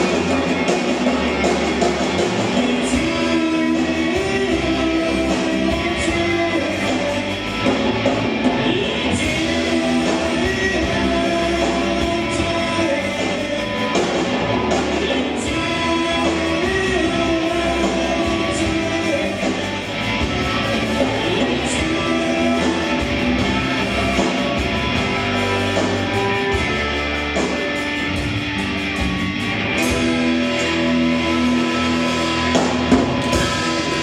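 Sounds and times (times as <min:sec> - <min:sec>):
rock band playing live: 0:00.0 - 0:34.0.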